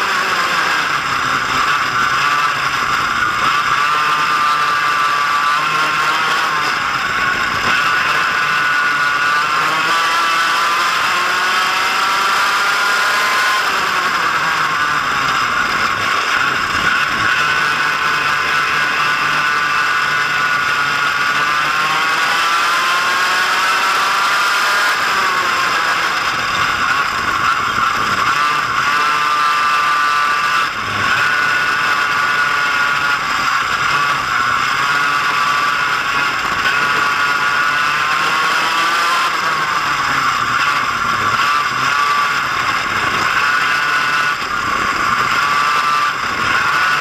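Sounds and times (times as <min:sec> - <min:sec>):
go-kart engine running hard: 0:00.0 - 0:47.0.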